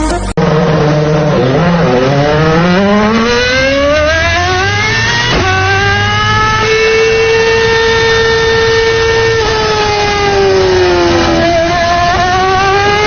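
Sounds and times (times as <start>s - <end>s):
small petrol engine revving: 0.4s - 13.0s.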